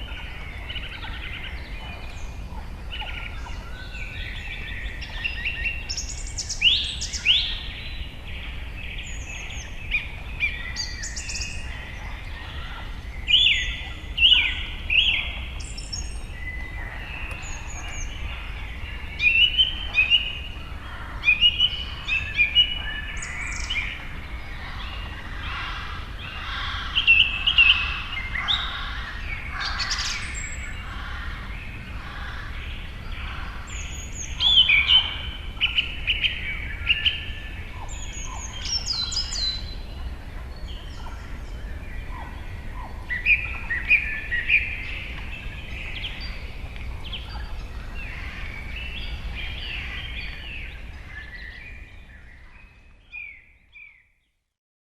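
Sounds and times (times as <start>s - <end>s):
birds chirping and calling: 0.0s - 54.0s
steady low rumble: 7.2s - 52.6s.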